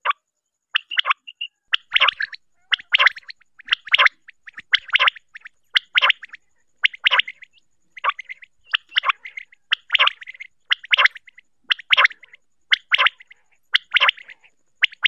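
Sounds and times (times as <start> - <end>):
quail calling: 0.8 - 15.0.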